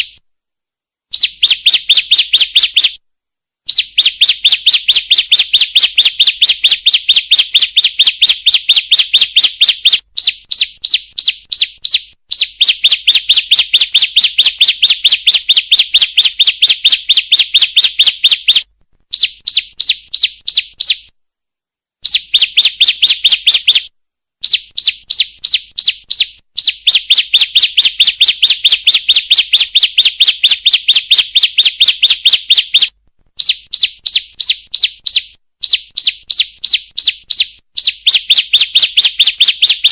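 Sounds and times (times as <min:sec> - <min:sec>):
bird calls high chirps: 0:01.1 - 0:03.0, 0:03.7 - 0:21.1, 0:22.0 - 0:39.9.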